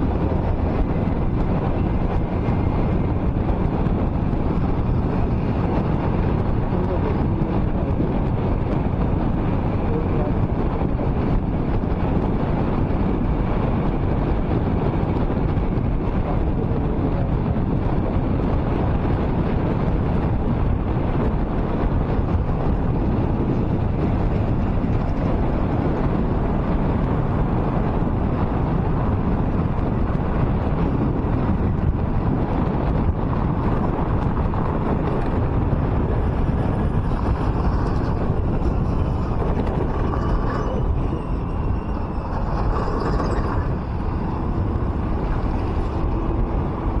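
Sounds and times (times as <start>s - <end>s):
car road noise on highway: 0.0s - 47.0s
wind buffeting microphone: 0.0s - 47.0s.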